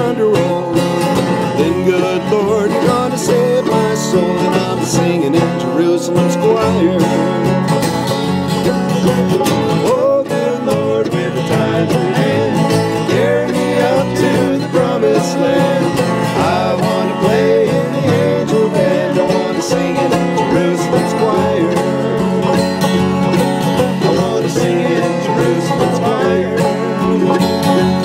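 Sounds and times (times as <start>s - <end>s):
acoustic guitar: 0.0s - 28.0s
banjo: 0.0s - 28.0s
mandolin: 0.0s - 28.0s
upright bass: 0.0s - 28.0s.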